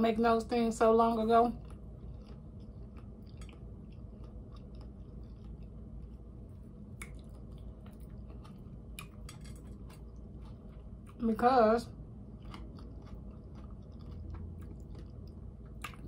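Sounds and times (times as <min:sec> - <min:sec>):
chewing and soft mouth sounds: 0:00.8 - 0:16.0.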